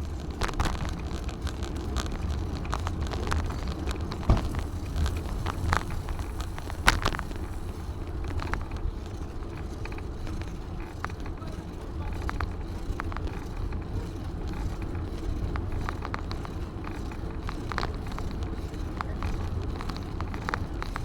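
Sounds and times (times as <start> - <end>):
bicycle clicks and rattles: 0.0 - 21.0
wind rumble on microphone: 0.0 - 21.0
bicycle knocking over bumps: 0.2 - 21.0.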